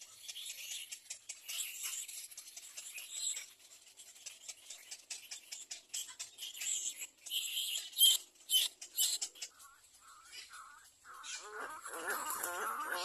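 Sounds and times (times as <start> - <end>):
bird chicks ticking and chattering: 0.0 - 13.0
chicks rustling in twigs: 0.0 - 13.0.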